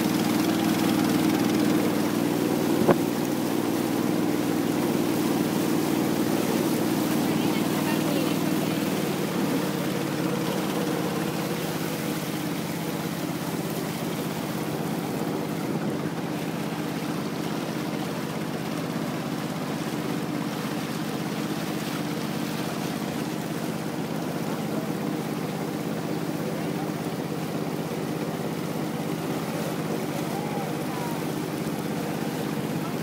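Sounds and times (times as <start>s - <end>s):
boat engine running: 0.0s - 33.0s
water rushing past hull: 0.0s - 33.0s.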